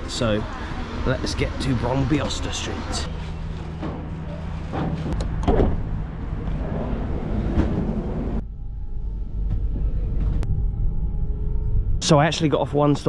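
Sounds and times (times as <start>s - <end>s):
railway platform noise: 0.0s - 11.8s
train rumble: 0.0s - 13.0s.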